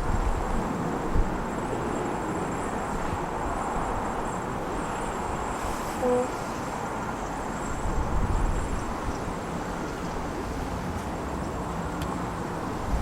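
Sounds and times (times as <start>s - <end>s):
distant airport traffic: 0.0s - 13.0s
wind hiss: 0.0s - 13.0s.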